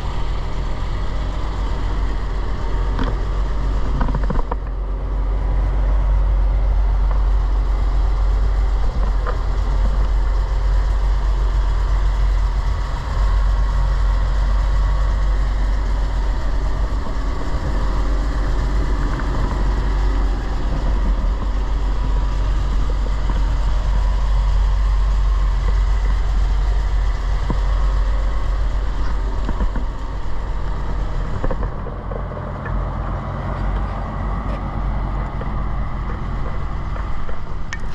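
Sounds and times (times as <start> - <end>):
truck engine idling: 0.0 - 37.9.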